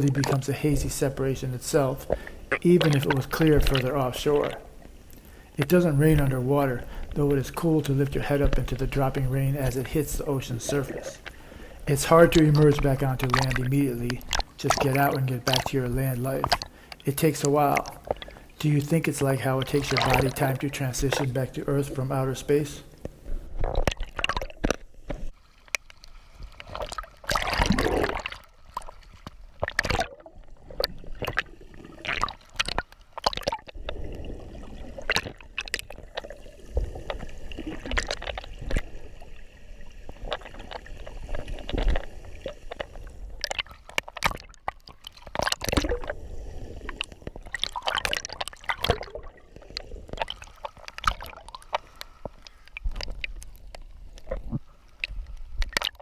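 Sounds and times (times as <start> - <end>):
water sloshing and gurgling: 0.0 - 56.0
water splashes and drips: 0.0 - 56.0.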